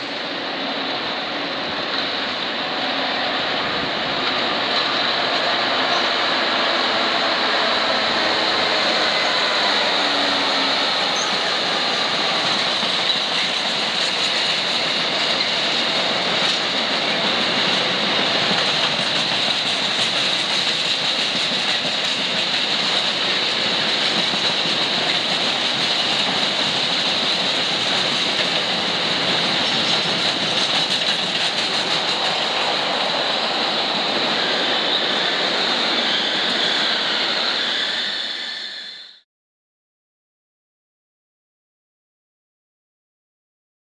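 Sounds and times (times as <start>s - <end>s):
train wheels rattling on rail: 0.0s - 38.7s.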